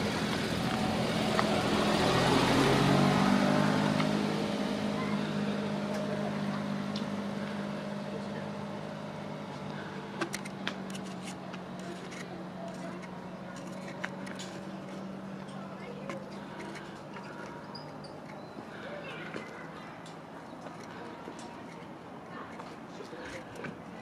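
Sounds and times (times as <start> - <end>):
steady engine hum: 0.0 - 24.0
vehicle passing: 0.0 - 24.0.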